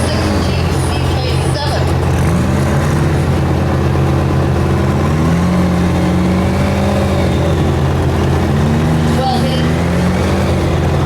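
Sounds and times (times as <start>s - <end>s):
truck engine revving high: 0.0s - 11.0s.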